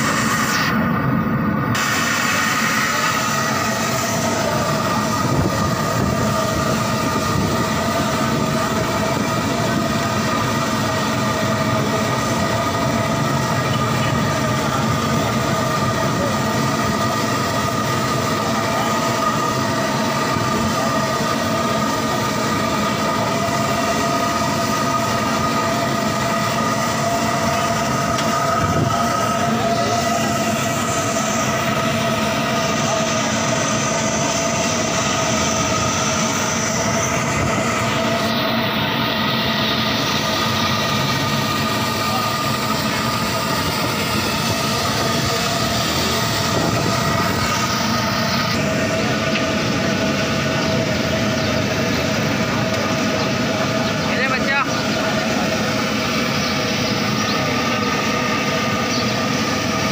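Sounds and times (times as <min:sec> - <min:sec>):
steady roar: 0:00.0 - 0:59.9
steady whine: 0:00.0 - 0:59.9.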